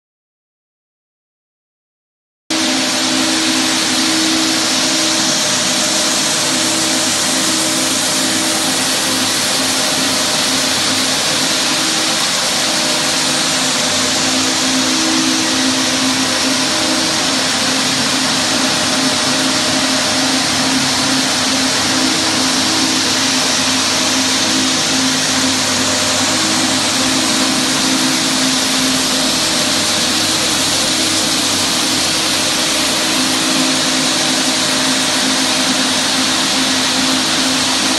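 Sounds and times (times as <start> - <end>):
floor sander motor hum: 2.5 - 37.9
sanding discs grinding lacquer: 2.5 - 37.9.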